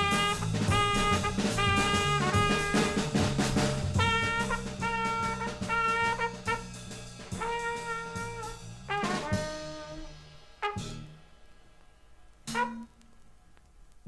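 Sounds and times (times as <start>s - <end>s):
trumpet playing short notes: 0.0s - 11.2s, 12.5s - 13.0s
jazz trio music: 0.0s - 11.6s, 12.4s - 13.2s.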